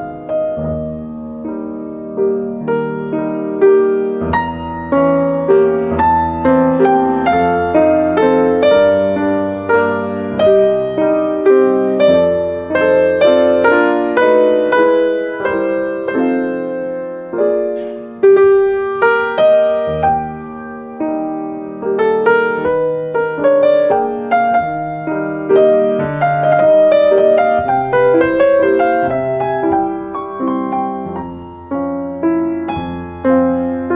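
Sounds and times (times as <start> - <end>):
gentle solo piano: 0.0 - 33.9.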